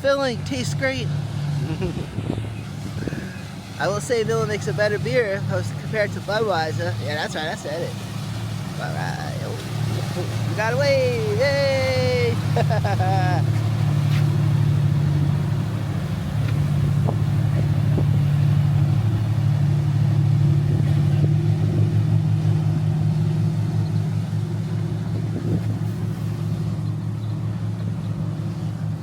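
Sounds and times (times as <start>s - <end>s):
motorboat engines droning: 0.0s - 29.0s.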